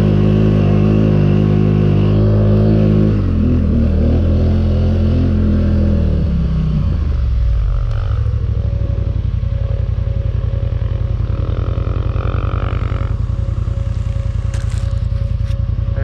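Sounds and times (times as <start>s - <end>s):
atv engine under throttle: 0.0s - 16.0s.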